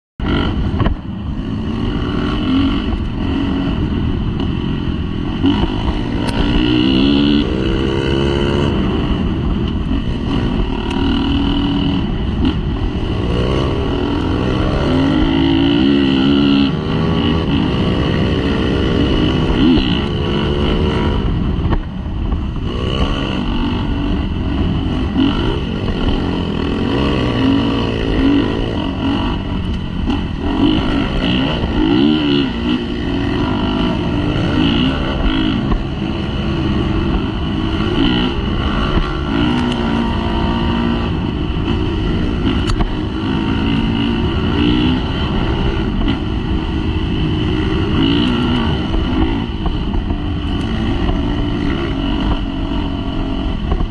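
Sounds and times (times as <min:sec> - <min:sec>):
dirt bike engine revving: 0:00.2 - 0:53.9.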